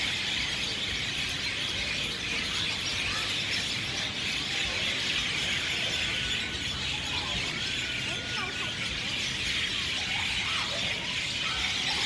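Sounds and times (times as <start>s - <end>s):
flock of small birds chirping: 0.0s - 12.0s.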